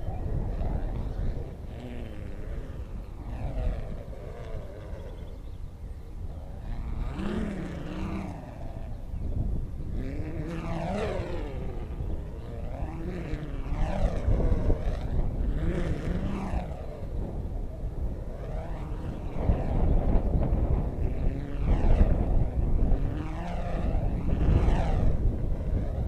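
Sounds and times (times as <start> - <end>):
stunt kite humming and buzzing: 0.0 - 26.0
wind rumble on microphone: 0.0 - 26.0.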